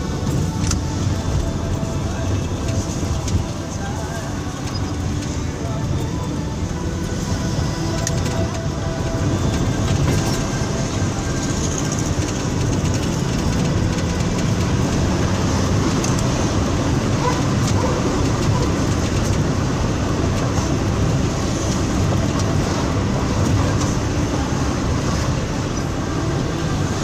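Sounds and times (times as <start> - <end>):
vehicle running low rumble: 0.0 - 27.0.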